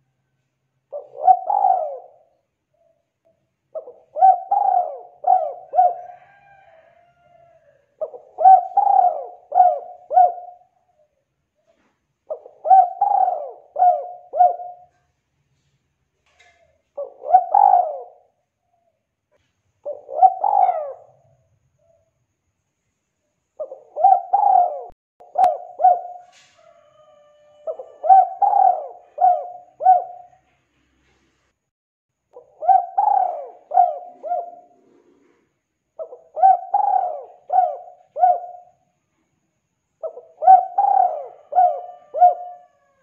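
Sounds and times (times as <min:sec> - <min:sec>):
dove cooing: 0:00.9 - 0:03.0, 0:03.7 - 0:07.3, 0:07.9 - 0:15.1, 0:16.4 - 0:22.1, 0:23.6 - 0:30.6, 0:32.4 - 0:38.8, 0:40.0 - 0:43.0.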